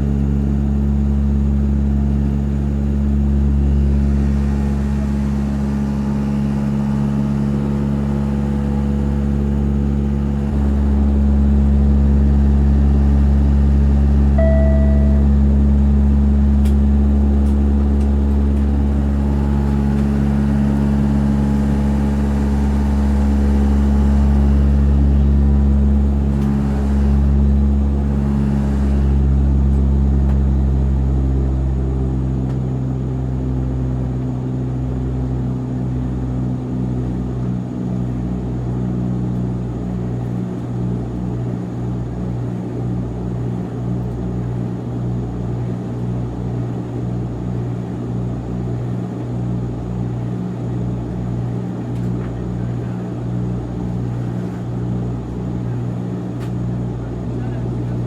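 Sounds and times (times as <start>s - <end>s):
light plane engine drone: 0.0s - 58.0s.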